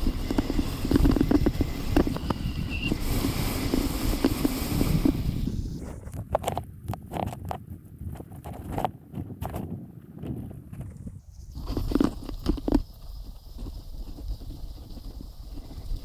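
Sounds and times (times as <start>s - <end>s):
sled runners scraping on snow: 0.0s - 6.6s, 8.2s - 16.0s
wind on microphone: 0.0s - 16.0s.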